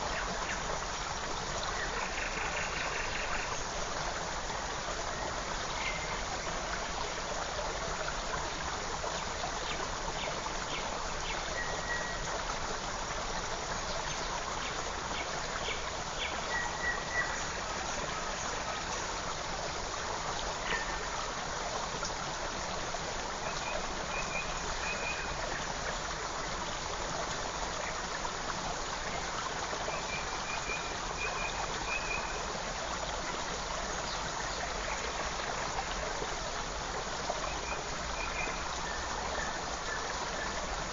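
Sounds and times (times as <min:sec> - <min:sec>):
creek running: 0:00.0 - 0:40.9.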